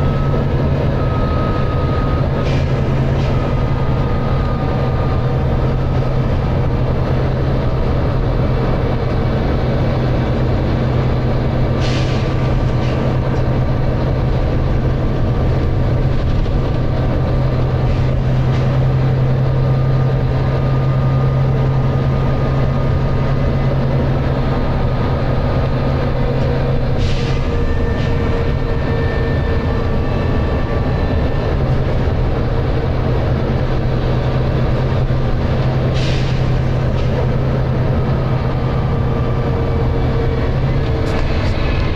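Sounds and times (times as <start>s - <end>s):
bus engine humming: 0.0s - 41.9s.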